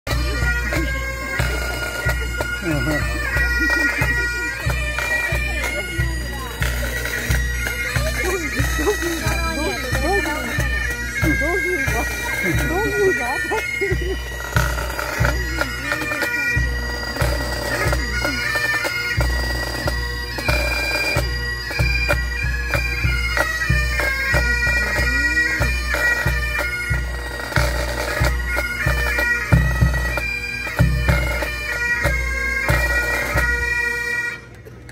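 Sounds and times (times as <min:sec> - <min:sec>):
bagpipes playing: 0:00.1 - 0:34.6.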